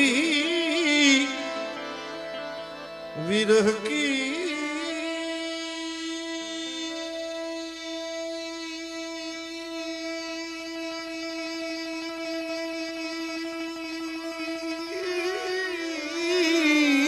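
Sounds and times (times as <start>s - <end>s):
person singing: 0.0s - 2.3s, 3.2s - 17.0s
harmonium holding a note: 0.0s - 17.0s.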